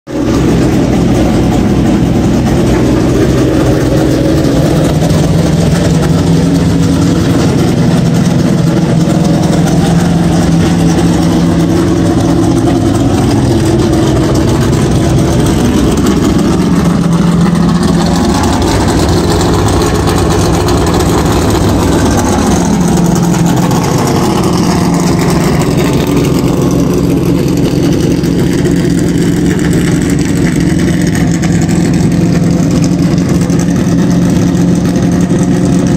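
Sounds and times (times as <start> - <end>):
race car engine idling: 0.1 - 35.9.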